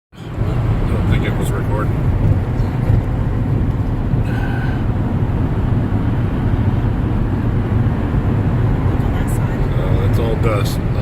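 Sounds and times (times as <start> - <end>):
car cabin road and engine noise: 0.1 - 11.0.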